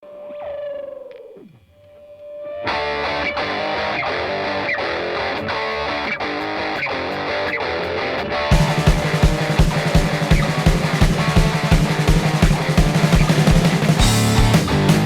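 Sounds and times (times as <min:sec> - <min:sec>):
distorted electric guitar riff: 0:01.3 - 0:15.0.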